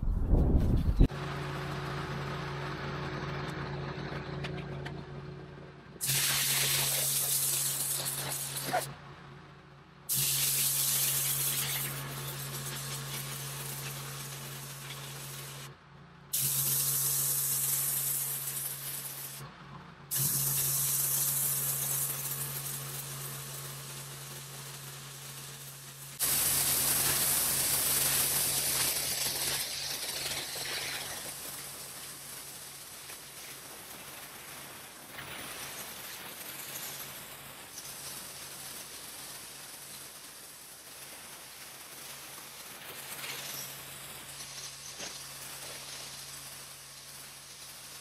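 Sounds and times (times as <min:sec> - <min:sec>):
pressure washer spraying concrete: 0:06.0 - 0:08.9, 0:10.1 - 0:19.4, 0:20.1 - 0:48.0.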